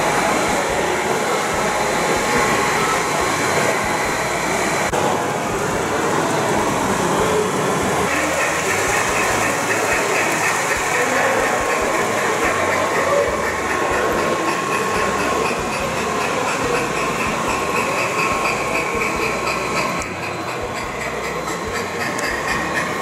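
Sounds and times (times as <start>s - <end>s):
model train running: 0.0s - 23.0s.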